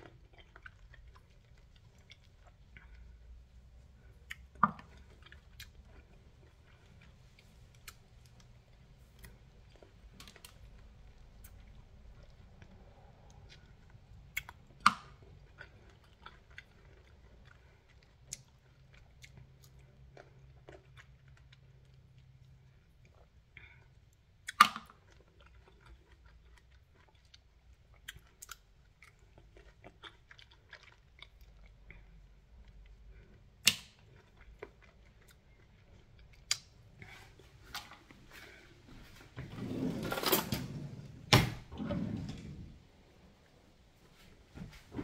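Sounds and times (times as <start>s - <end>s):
person chewing: 0.0s - 39.0s.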